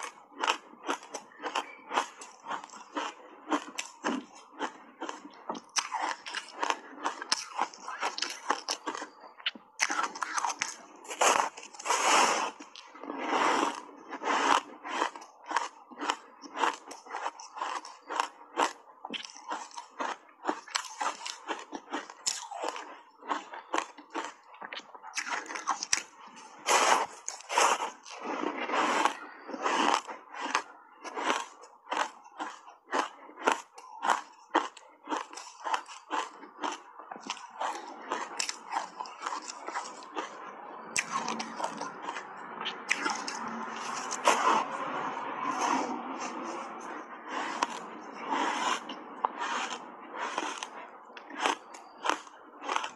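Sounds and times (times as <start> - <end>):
woman crunching ice: 0.0 - 40.4, 41.0 - 52.9.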